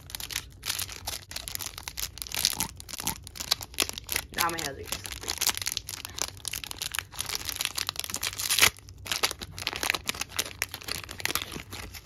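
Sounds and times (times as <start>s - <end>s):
foil pack tearing and crinkling: 0.0s - 12.0s.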